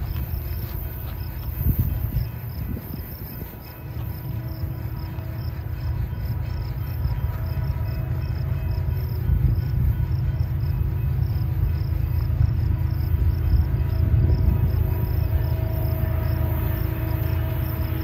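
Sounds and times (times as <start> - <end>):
freight train rumbling: 0.0 - 18.0
insects chirping: 0.0 - 18.0.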